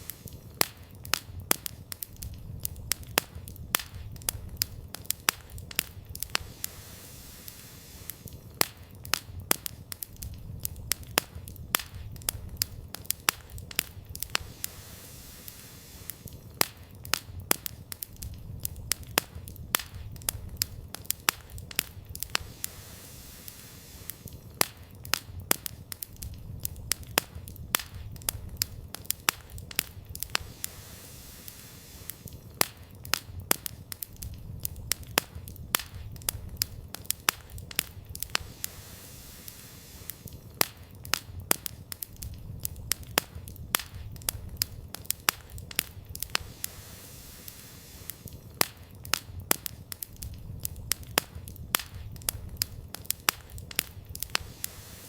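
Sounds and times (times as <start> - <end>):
firewood crackling and popping: 0.0 - 55.0
low rumble of flames: 0.0 - 55.0.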